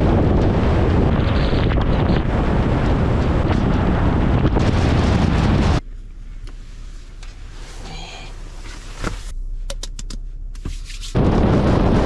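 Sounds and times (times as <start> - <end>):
car interior hum: 0.0 - 12.0
road and wind noise: 0.0 - 12.0.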